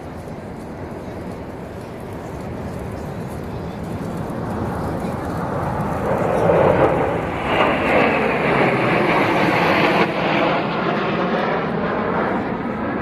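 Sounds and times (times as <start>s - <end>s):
military aircraft flying past: 0.0s - 13.0s.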